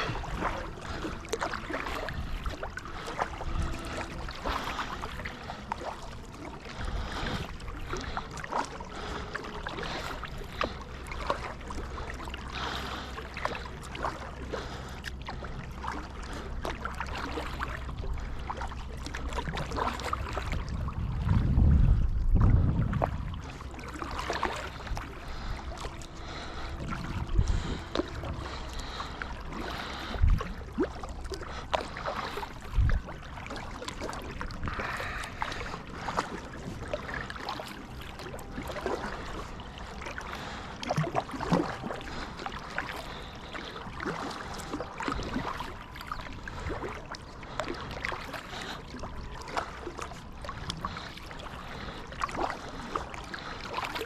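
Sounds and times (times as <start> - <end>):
paddle strokes splashing: 0.0 - 54.0.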